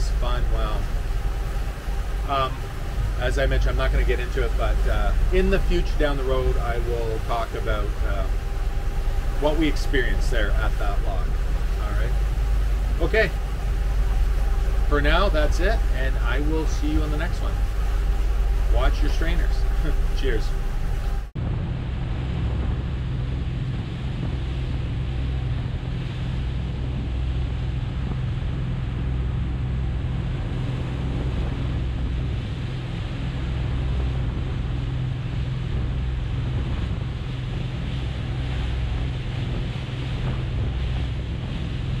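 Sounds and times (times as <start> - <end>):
boat engine drone: 0.0 - 42.0
water rushing along hull: 0.0 - 42.0
wind buffeting microphone: 0.0 - 42.0.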